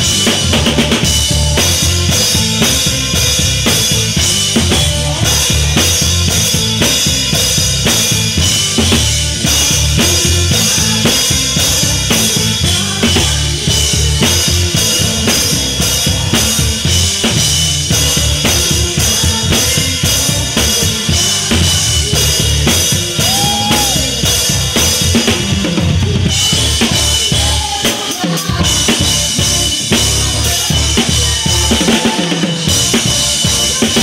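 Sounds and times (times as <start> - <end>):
drum kit groove: 0.0 - 34.0.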